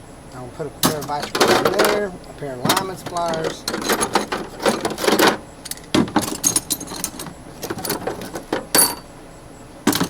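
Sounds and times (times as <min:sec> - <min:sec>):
metal hand tools clanking: 0:00.8 - 0:09.1.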